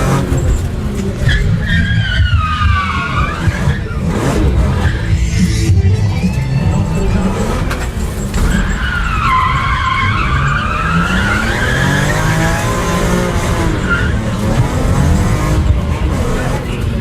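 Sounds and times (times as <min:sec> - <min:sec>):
car tyres squealing: 0:00.0 - 0:17.0.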